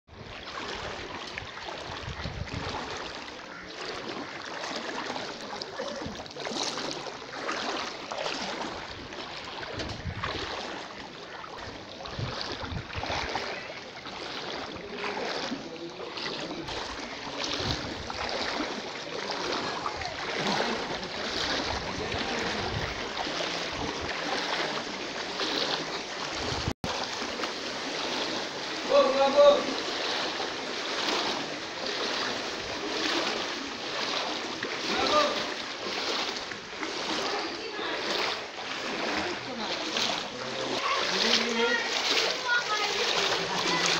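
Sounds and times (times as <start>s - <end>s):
people wading through water: 0.1s - 43.9s.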